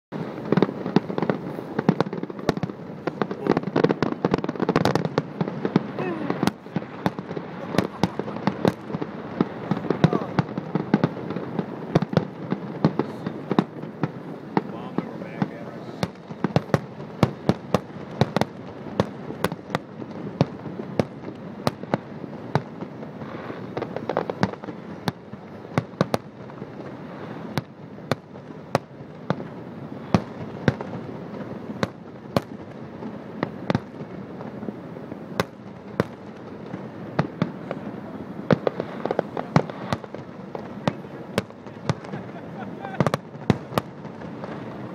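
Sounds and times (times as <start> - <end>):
firework shells bursting: 0.2 - 37.8.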